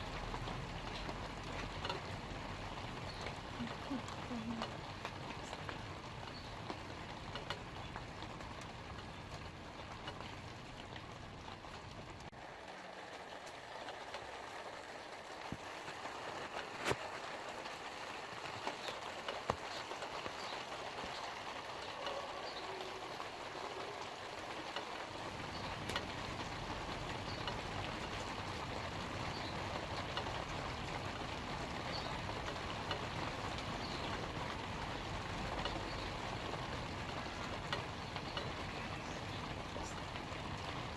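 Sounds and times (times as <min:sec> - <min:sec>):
light rain on leaves: 0:00.0 - 0:40.9.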